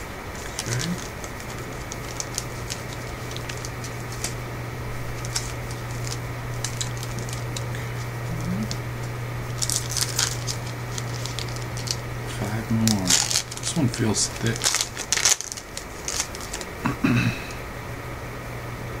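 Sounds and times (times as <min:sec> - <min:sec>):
steady low hum: 0:00.0 - 0:19.0
wrapper crinkling and cards clicking: 0:00.3 - 0:16.9.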